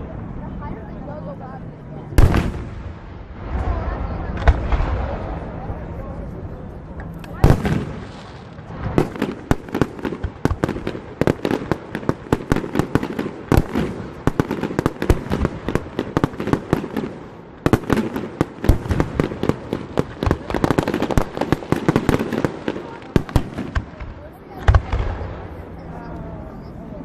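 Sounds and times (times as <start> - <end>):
fireworks bangs and crackling: 2.1 - 26.9.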